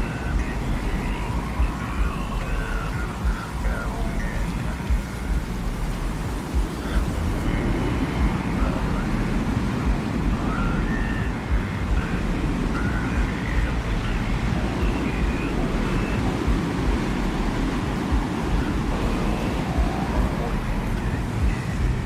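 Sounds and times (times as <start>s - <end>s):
low rumble of wind: 0.0s - 22.0s.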